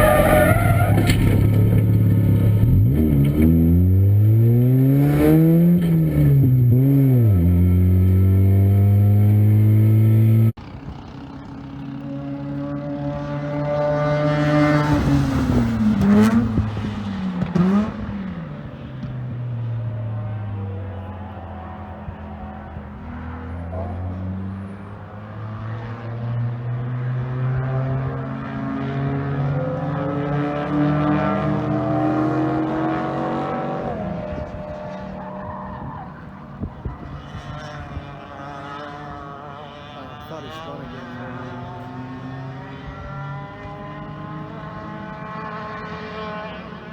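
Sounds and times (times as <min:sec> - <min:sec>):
racing car engine downshifting: 0:00.0 - 0:46.9.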